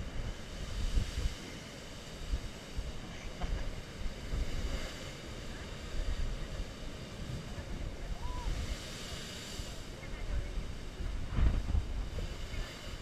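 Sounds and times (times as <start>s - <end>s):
surf breaking against rocks: 0.0s - 13.0s
wind buffeting microphone: 0.0s - 13.0s.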